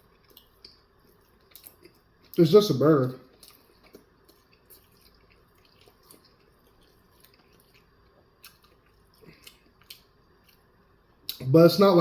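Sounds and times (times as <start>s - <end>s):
faint chewing: 0.0s - 2.4s, 3.1s - 11.5s.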